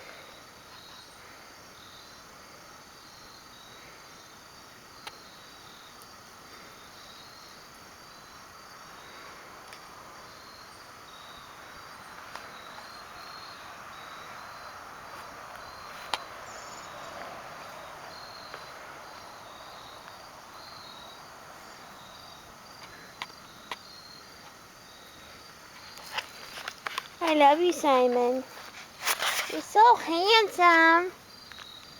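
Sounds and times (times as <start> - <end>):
crickets chirping: 0.0 - 31.9
faint background hiss: 0.0 - 31.9.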